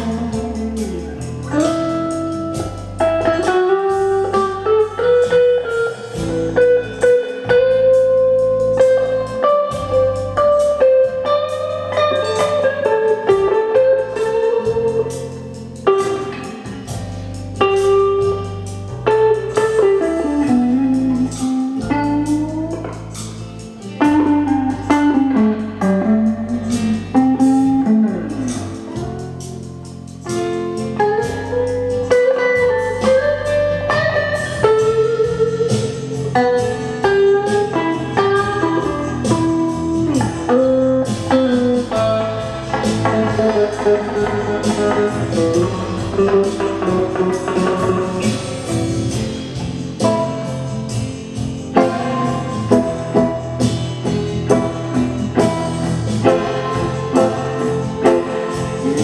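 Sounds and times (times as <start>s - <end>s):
blues backing track: 0.0s - 59.0s
clean electric guitar blues lead: 0.0s - 59.0s.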